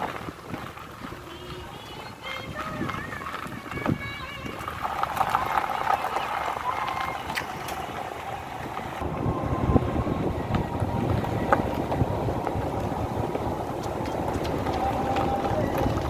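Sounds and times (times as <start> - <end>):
knocks and rattles over bumps: 0.0 - 16.0
vehicle driving on road: 0.0 - 16.0.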